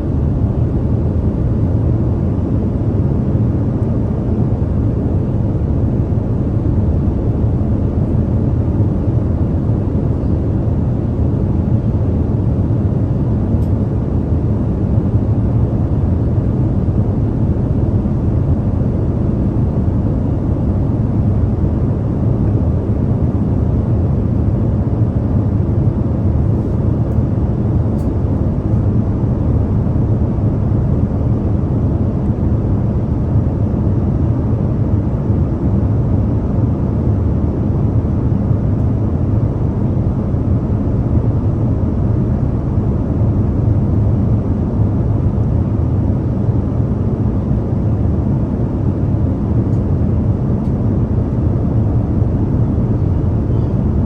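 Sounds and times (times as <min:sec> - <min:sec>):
airliner cabin drone: 0:00.0 - 0:54.0.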